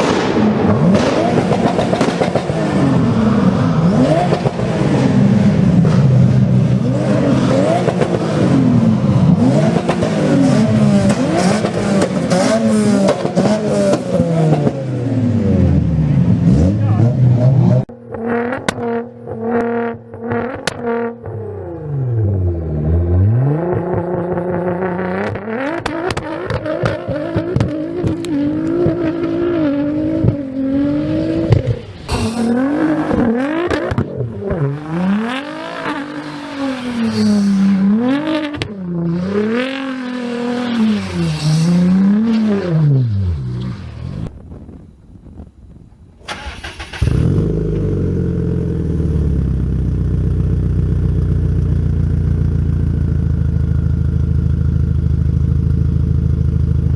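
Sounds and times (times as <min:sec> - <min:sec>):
car engine revving: 0:00.0 - 0:44.8, 0:46.3 - 0:56.5.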